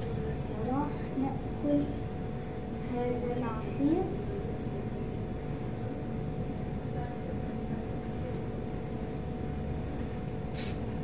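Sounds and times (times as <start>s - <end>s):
low room rumble and hum: 0.0s - 11.0s.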